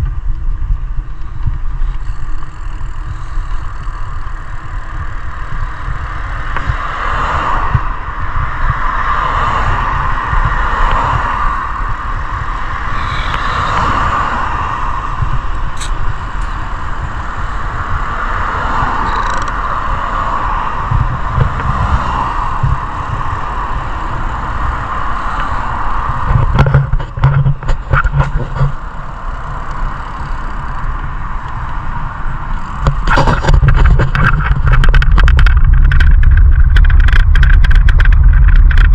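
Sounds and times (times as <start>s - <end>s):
road traffic: 0.0s - 38.9s
wind rumble on microphone: 0.0s - 38.9s.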